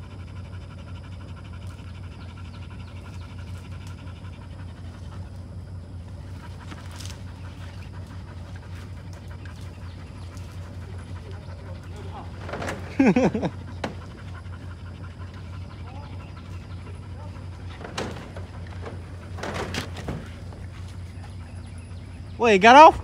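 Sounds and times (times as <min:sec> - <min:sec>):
dog panting: 0:00.0 - 0:22.4.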